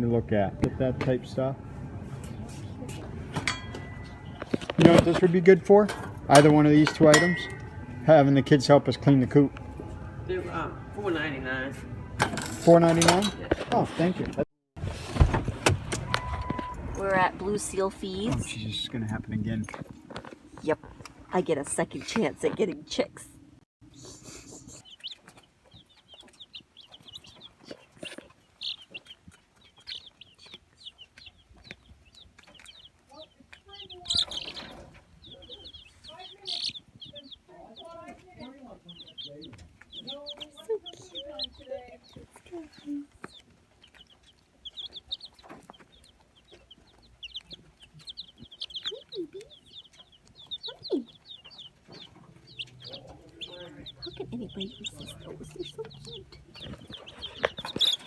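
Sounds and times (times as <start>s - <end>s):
baby chicks peeping: 0.0s - 14.4s, 15.1s - 58.0s.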